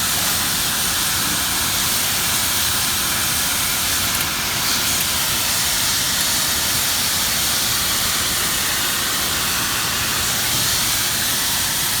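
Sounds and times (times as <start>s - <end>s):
brazing torch flame hissing: 0.0s - 12.0s.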